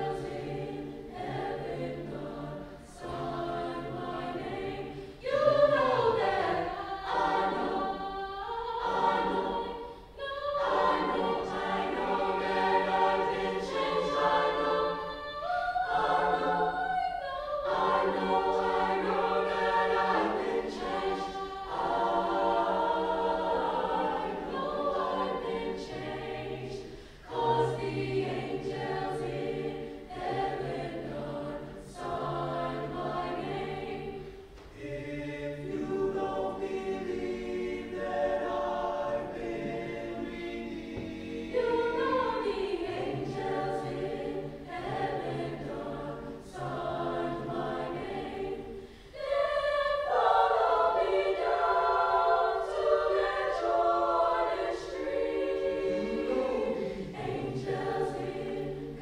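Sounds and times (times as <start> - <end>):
choir singing gospel in parts: 0.0 - 59.0.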